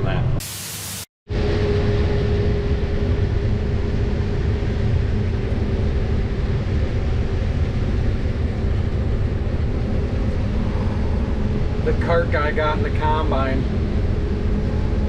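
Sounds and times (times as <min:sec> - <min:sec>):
combine harvester running: 0:01.3 - 0:15.0.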